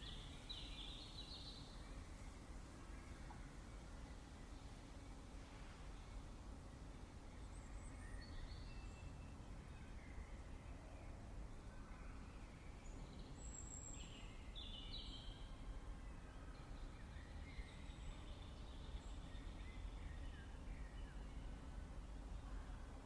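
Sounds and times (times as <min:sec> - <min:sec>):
faint songbirds chirping: 0:00.0 - 0:23.0.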